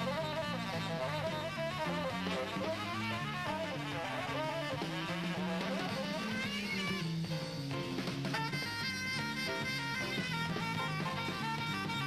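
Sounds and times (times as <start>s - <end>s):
jazz band accompanying: 0.0s - 12.0s
tenor saxophone solo: 0.0s - 12.0s.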